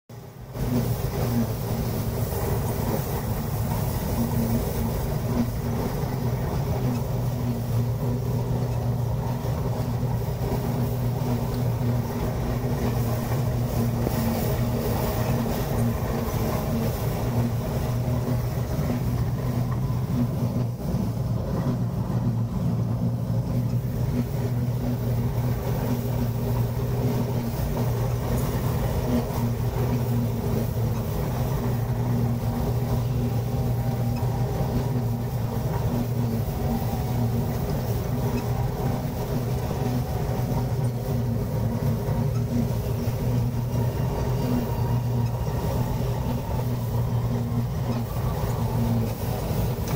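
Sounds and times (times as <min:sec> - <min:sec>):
combine harvester humming: 0:00.1 - 0:49.9.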